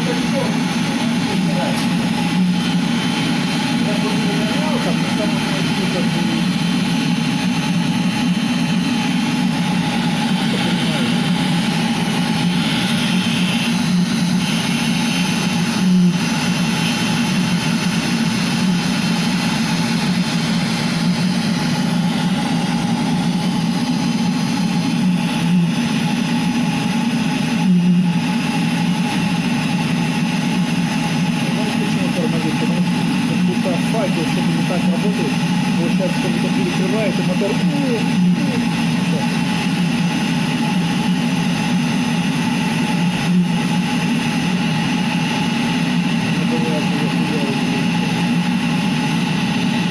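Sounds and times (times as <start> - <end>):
heater fan and burner roar: 0.0 - 49.9
low hum: 0.0 - 49.9.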